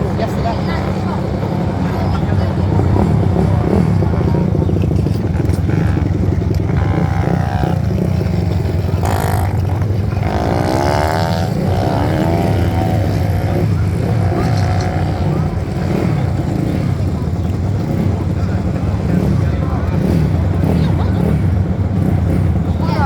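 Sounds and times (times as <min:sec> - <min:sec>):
motorcycles racing: 0:00.0 - 0:23.0.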